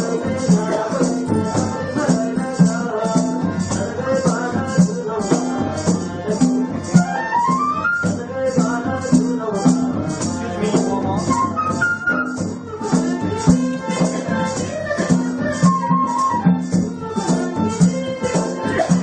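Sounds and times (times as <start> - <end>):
background music with shaker percussion: 0.0 - 19.0.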